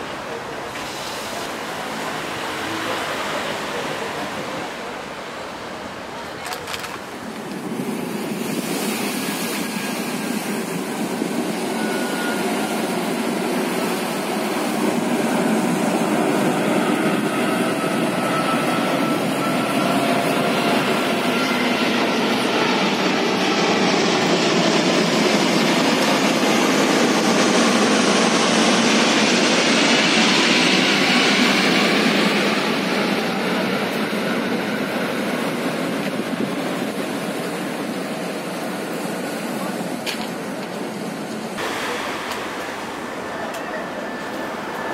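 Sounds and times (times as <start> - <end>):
jet airliner passing overhead: 0.0 - 44.9.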